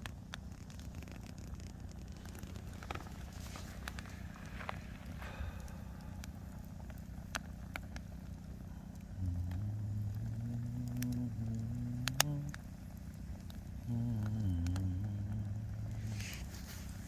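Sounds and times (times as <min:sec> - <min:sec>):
campfire crackling and popping: 0:00.0 - 0:17.0
low motor hum: 0:00.0 - 0:17.0.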